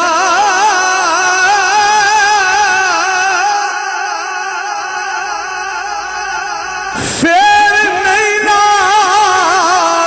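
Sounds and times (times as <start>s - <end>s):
man singing long wavering note: 0.0s - 10.0s.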